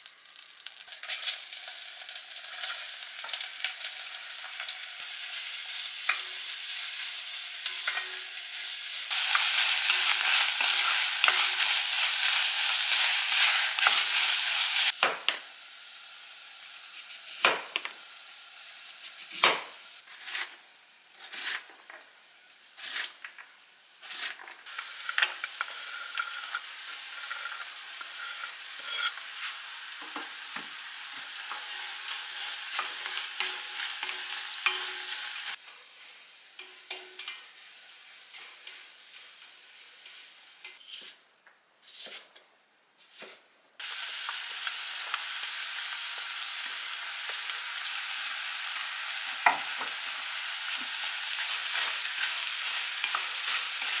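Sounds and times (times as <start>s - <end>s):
onion sizzling in a pot: 0.0s - 41.2s, 43.0s - 54.0s.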